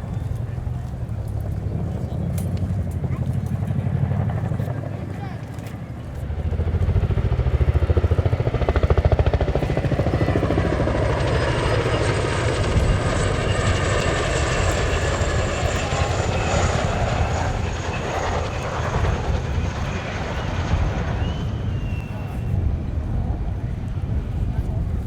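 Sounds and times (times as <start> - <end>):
helicopter rotor chop: 0.0 - 25.0
high turbine whine: 4.3 - 25.0.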